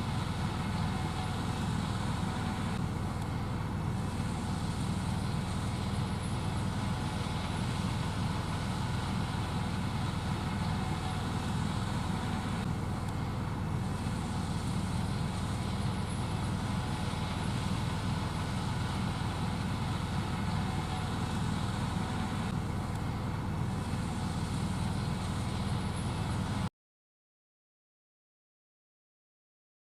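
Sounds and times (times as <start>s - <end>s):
combine harvester machinery drone: 0.0s - 26.7s.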